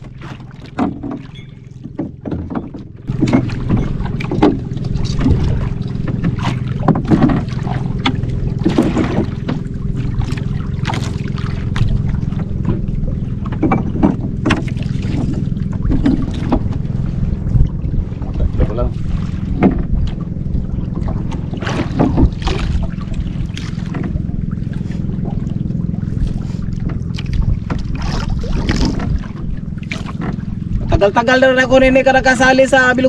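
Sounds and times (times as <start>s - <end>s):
small boat engine humming: 0.0s - 33.0s
water slapping against hull: 0.0s - 33.0s
wind buffeting microphone: 3.0s - 33.0s.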